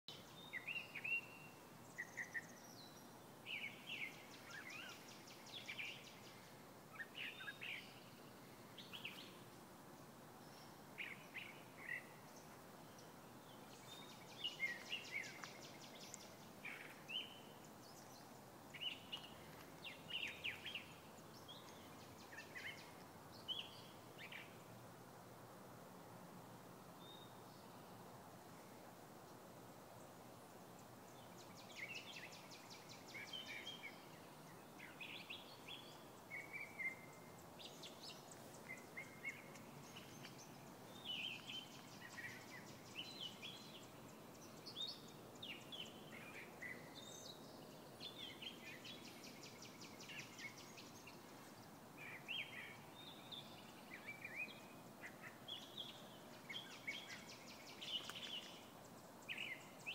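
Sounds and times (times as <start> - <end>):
songbirds chirping: 0.0 - 59.9
faint background hiss: 0.1 - 59.9.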